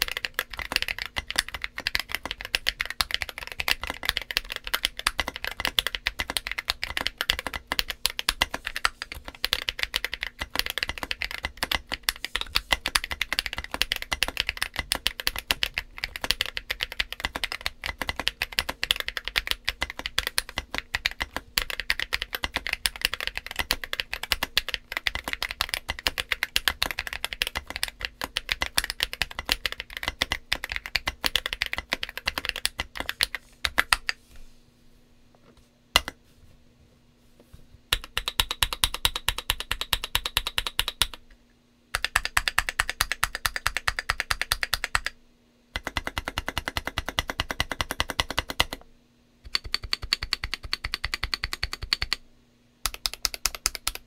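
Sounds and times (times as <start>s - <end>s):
fast typing on mechanical keyboard: 0.0s - 34.2s, 37.9s - 41.2s, 42.0s - 45.2s, 45.8s - 48.8s, 49.5s - 52.2s, 52.9s - 54.0s.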